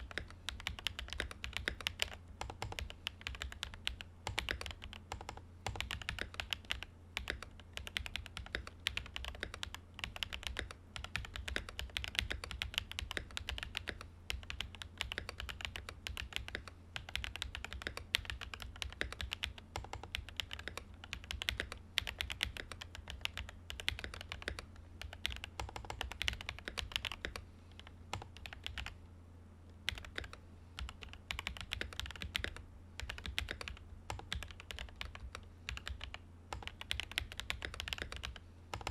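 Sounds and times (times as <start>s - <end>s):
mechanical keyboard typing: 0.0s - 29.0s, 29.9s - 38.9s
steady low hum: 0.0s - 38.9s.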